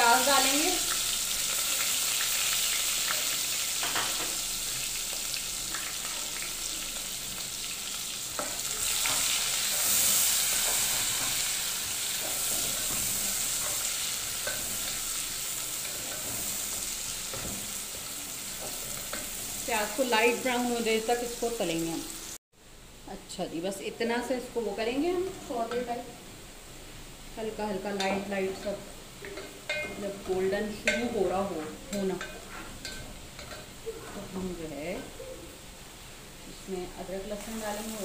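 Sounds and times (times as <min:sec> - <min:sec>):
onions sizzling in hot oil: 0:00.0 - 0:22.4, 0:24.1 - 0:38.0.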